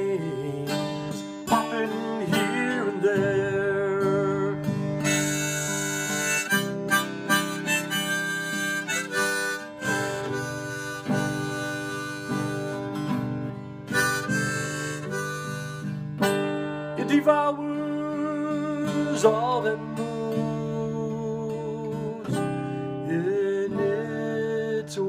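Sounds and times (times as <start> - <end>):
harmonica melody: 0.0 - 22.8
strummed acoustic guitar: 0.0 - 25.0.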